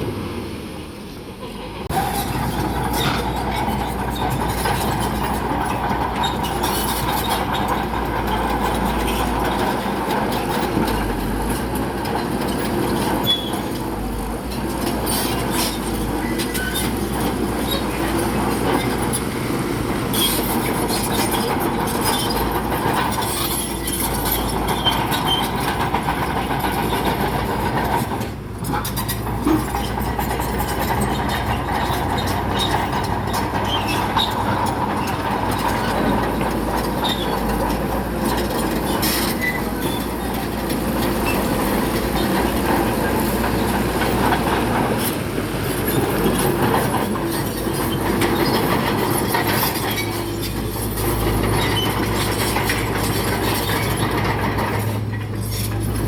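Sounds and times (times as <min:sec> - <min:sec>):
bulldozer diesel engine running: 0:00.0 - 0:56.0
steel tracks clanking: 0:01.0 - 0:56.0.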